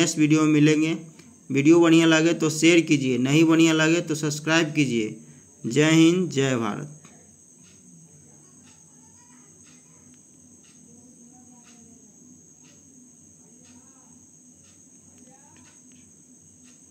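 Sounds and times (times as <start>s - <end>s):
high-pitched insect trill: 0.0s - 16.9s
soft ticking: 0.1s - 16.9s.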